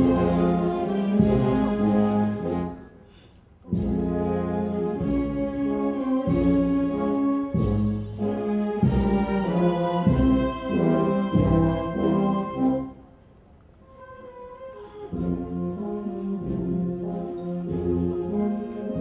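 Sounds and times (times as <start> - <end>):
marching brass band playing: 0.0 - 3.0, 3.6 - 13.1, 14.1 - 19.0.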